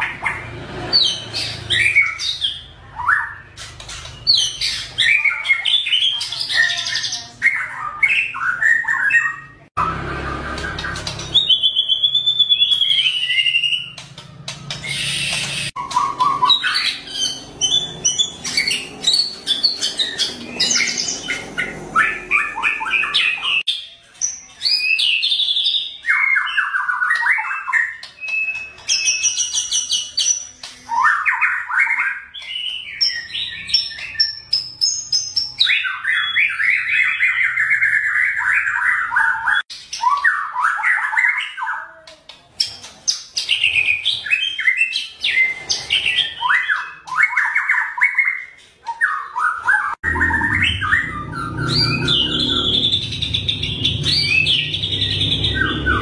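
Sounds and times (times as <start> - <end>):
songbird singing: 0.0 - 41.8, 42.4 - 56.0.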